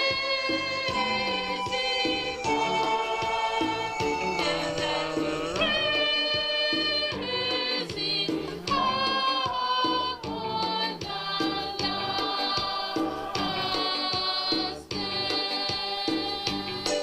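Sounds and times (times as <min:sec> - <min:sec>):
choir singing a hymn: 0:00.0 - 0:16.7
instrumental accompaniment with beat: 0:00.0 - 0:17.0.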